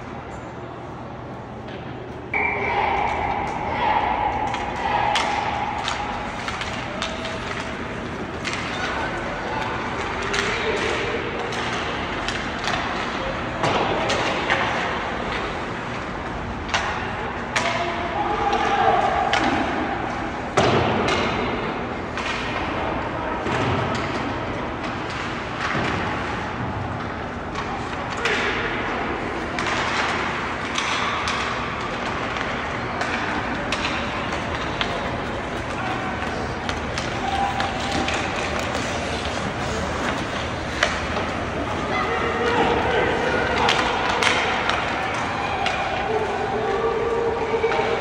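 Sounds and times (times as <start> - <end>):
hockey sticks and puck knocks: 1.6 - 19.9, 20.5 - 48.0.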